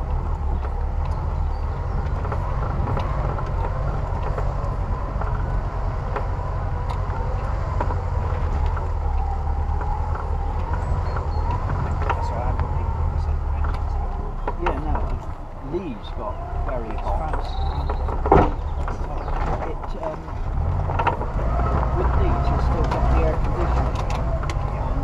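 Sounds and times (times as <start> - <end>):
body knocks and rattles: 0.0 - 25.0
low engine drone: 0.0 - 25.0.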